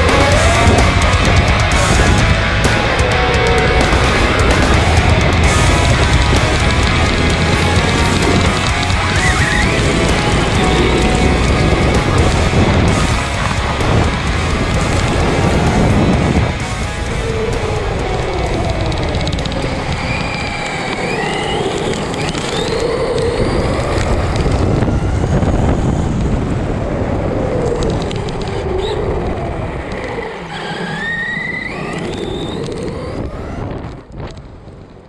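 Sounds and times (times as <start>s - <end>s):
electric motor whining: 0.0s - 26.7s, 27.8s - 34.1s
rumble of tyres and drivetrain: 0.0s - 35.0s.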